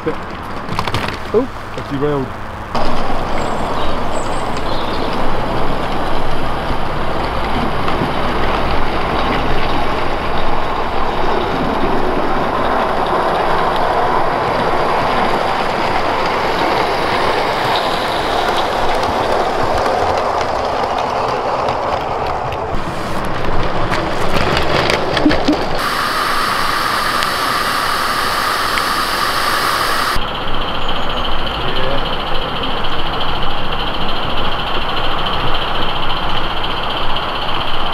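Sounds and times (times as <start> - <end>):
model steam train running: 2.8 - 37.9.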